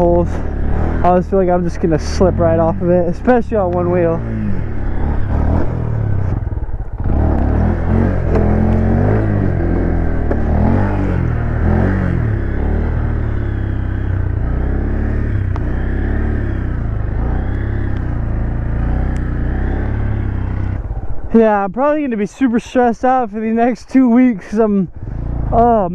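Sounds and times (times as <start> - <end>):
motorcycle engine revving: 0.0 - 21.5, 24.9 - 25.9.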